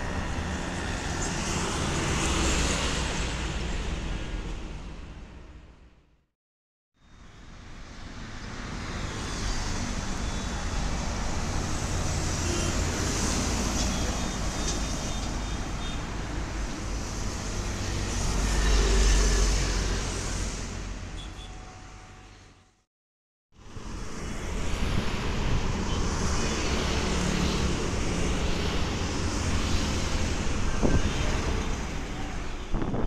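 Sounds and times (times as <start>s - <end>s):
highway traffic: 0.0s - 6.2s, 7.0s - 22.9s, 23.5s - 33.0s.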